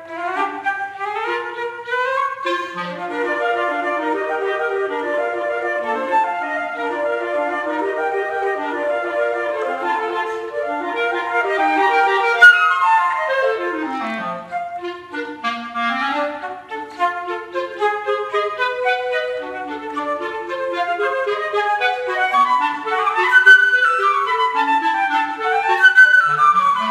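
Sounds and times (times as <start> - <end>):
flute and clarinet duet: 0.0 - 26.9.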